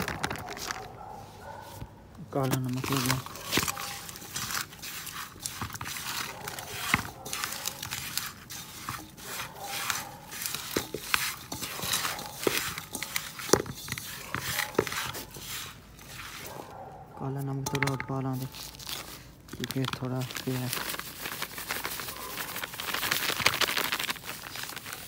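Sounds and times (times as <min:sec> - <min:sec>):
plastic packet crinkling: 0:00.0 - 0:01.0, 0:02.4 - 0:15.4, 0:17.7 - 0:25.0.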